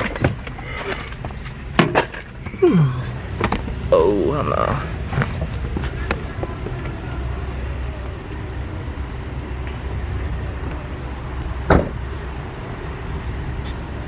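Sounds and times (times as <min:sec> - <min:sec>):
car engine rumble: 0:00.0 - 0:14.0.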